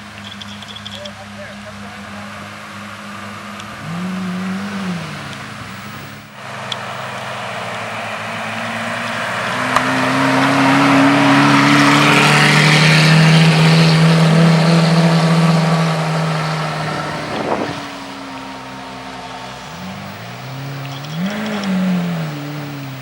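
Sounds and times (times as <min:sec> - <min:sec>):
sports car engine passing by: 0:00.0 - 0:23.0.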